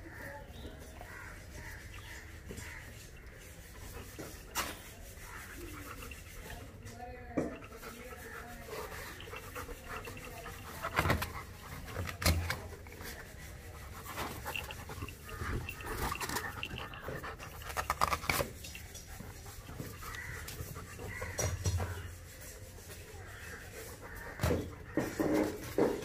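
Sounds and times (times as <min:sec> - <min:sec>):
puppy panting: 0:01.2 - 0:26.0.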